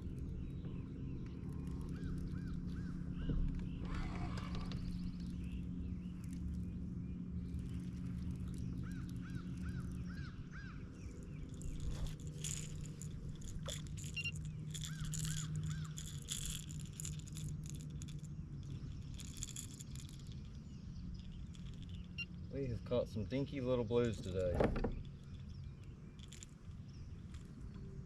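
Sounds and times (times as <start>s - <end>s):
steady low hum: 0.0s - 28.0s
birds calling: 0.5s - 27.8s.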